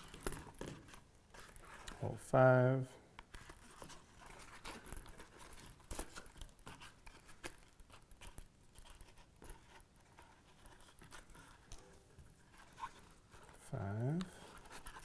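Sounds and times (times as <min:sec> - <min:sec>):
thread rustling through leather: 0:00.0 - 0:02.1, 0:03.2 - 0:15.0.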